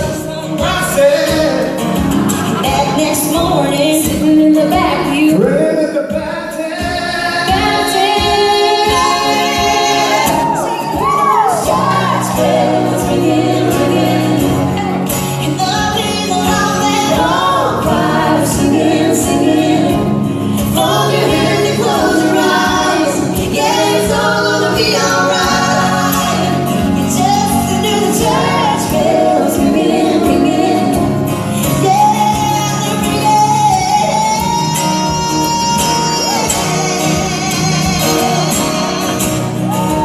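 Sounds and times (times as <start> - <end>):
acoustic accompaniment: 0.0 - 40.0
woman singing: 2.6 - 5.5, 7.4 - 40.0.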